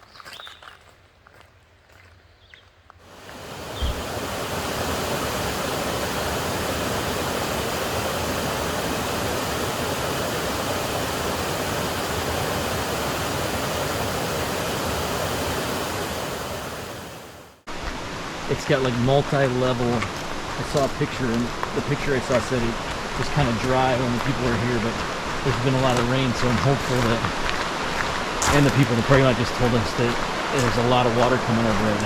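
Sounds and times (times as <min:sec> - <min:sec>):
rushing water: 0:03.1 - 0:32.0.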